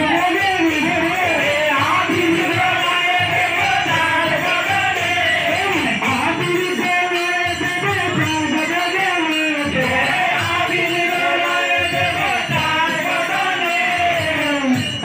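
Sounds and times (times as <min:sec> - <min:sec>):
devotional singing: 0:00.0 - 0:15.0.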